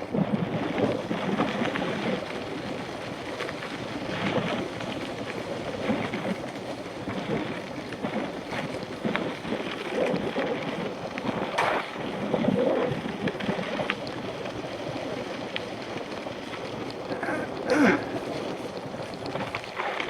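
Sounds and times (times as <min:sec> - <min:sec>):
bike tyres rolling rumble: 0:00.0 - 0:20.0
wind on microphone: 0:00.0 - 0:20.0.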